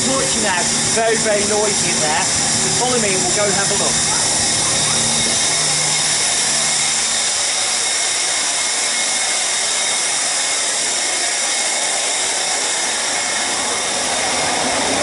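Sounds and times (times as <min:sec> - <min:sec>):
milking machinery hiss and whine: 0:00.0 - 0:15.0.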